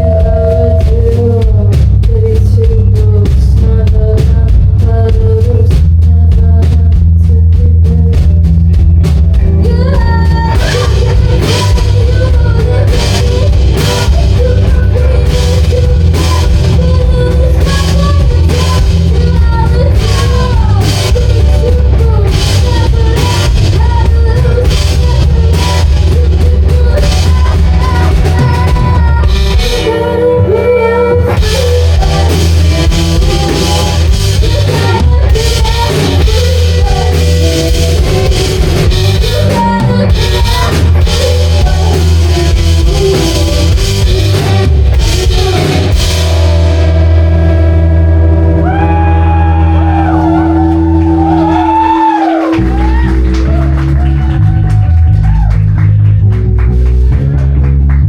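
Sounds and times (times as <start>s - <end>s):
bass guitar: 0.0s - 58.0s
drum kit: 0.0s - 58.0s
electric guitar: 8.2s - 58.0s.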